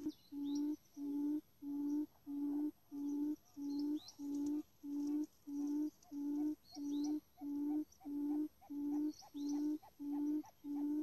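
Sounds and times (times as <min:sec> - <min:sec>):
low hooting bird lure call: 0:00.0 - 0:11.0.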